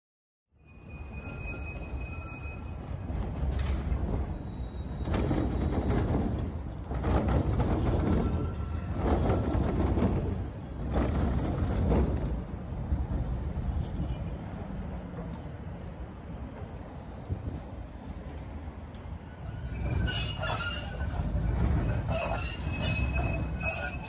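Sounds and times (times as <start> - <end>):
tram wheels rumbling over track: 0.6 - 24.0.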